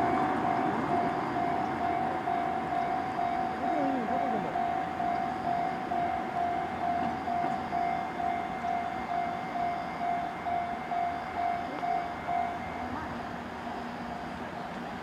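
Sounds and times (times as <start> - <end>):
electric locomotive running: 0.0 - 15.0
level crossing warning bell ringing: 0.0 - 15.0.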